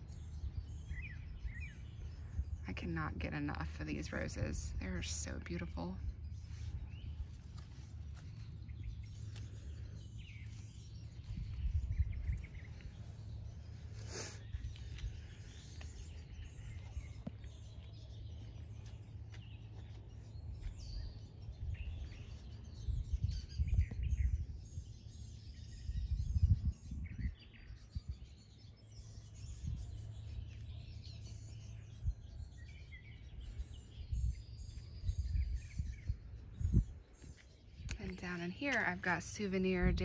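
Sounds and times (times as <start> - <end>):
low rumble on microphone: 0.0 - 40.0
songbirds chirping and singing: 0.0 - 40.0.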